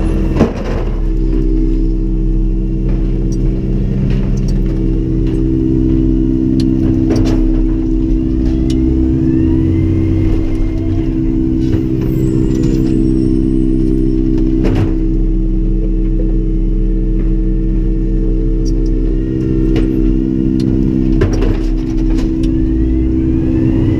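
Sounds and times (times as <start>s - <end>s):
truck engine droning: 0.0s - 23.9s.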